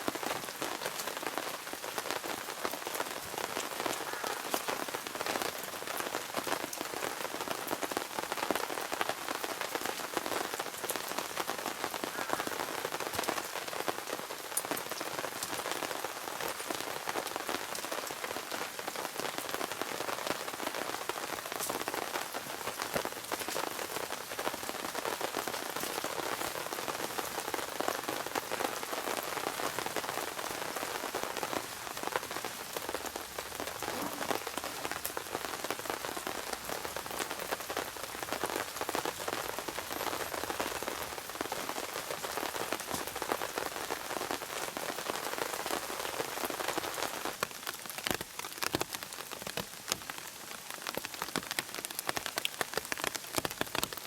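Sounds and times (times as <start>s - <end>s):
steady rain falling: 0.0s - 54.0s
raindrops ticking: 0.2s - 54.0s.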